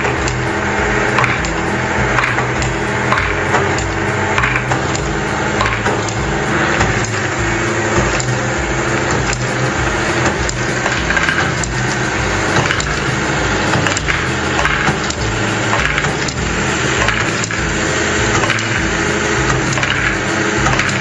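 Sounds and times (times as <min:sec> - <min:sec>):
plastic balls clicking through track: 0:00.0 - 0:21.0
steady low hum: 0:00.0 - 0:21.0.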